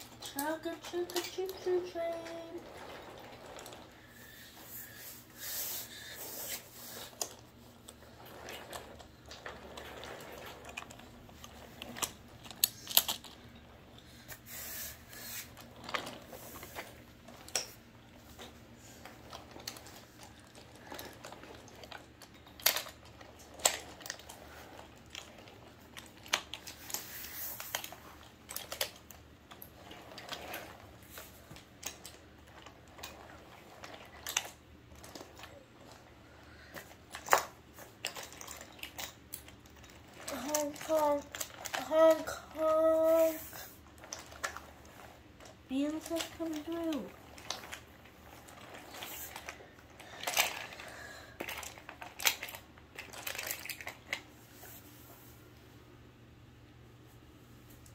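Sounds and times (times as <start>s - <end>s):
wooden toy cars clacking: 0.0s - 54.3s
wheels rolling over wooden track: 0.0s - 55.2s.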